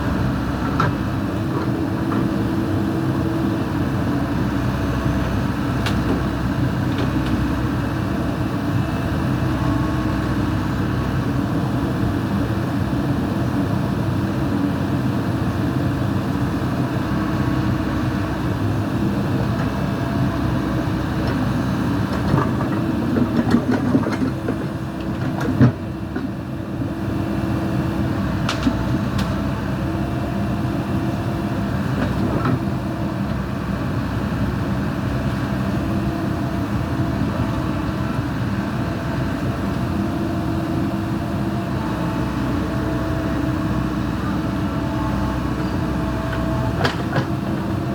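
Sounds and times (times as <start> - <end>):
backhoe diesel engine running: 0.0 - 47.9.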